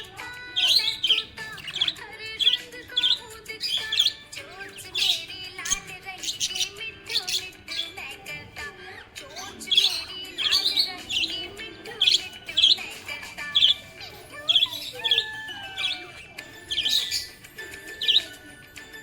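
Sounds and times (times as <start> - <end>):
budgerigar chirping and warbling: 0.0 - 8.6, 9.2 - 19.0.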